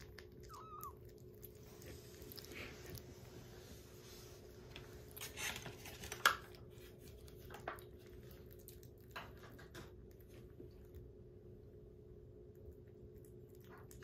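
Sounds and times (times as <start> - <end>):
kittens chewing and licking: 0.0 - 14.0.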